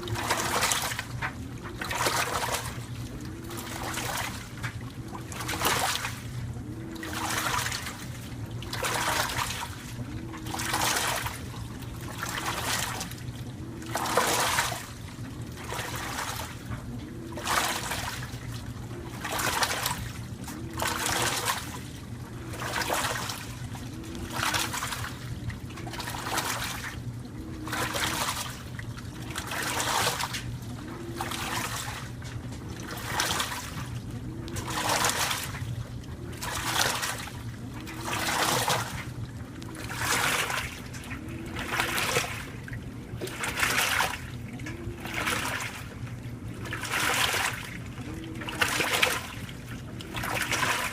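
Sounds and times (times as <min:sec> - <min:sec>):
steady low hum: 0:00.0 - 0:50.9
water swishing and sloshing: 0:00.0 - 0:50.9.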